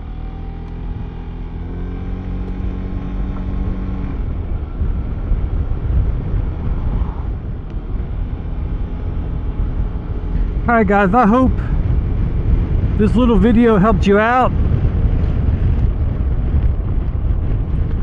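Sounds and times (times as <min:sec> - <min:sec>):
wind and road noise rumble: 0:00.0 - 0:18.0.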